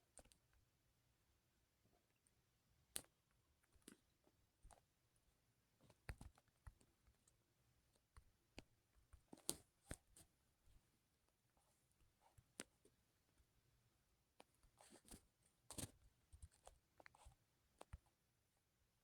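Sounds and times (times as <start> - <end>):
faint clicks and taps: 0.1 - 0.7, 2.0 - 13.6, 14.3 - 18.2.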